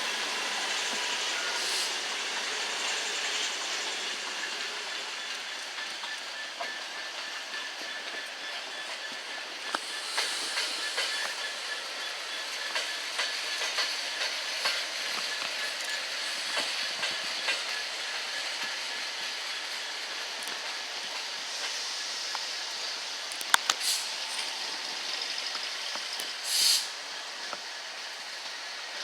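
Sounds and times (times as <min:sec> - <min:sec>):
train hiss on track: 0:00.0 - 0:29.0
wheels clicking over rail joints: 0:00.2 - 0:29.0.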